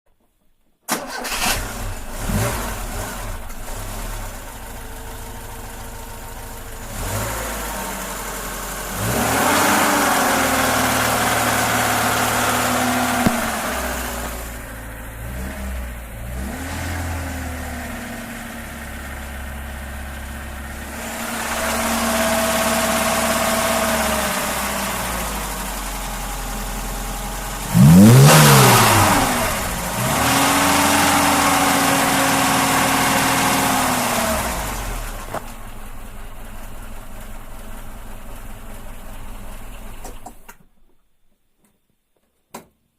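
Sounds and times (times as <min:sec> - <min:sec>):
car engine idling and revving: 0:01.0 - 0:40.5.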